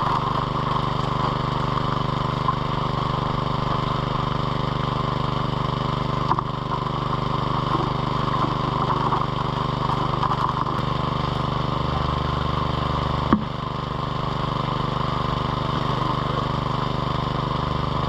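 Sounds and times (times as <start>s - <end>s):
water pump engine running: 0.0s - 18.0s.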